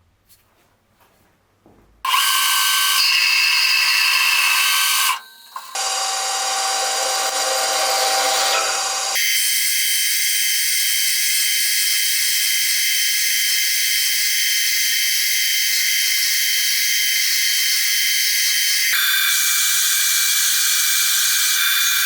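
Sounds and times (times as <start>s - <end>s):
power tools cutting metal: 2.1s - 22.0s.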